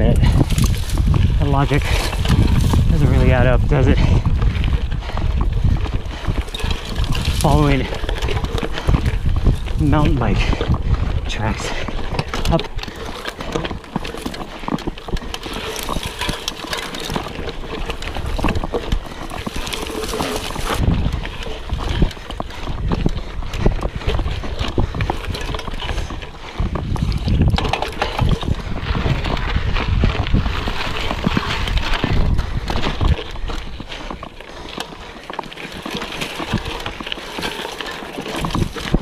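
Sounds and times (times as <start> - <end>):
bike rattling over bumps: 0.0 - 39.0
bike tyres crunching over dirt: 0.0 - 39.0.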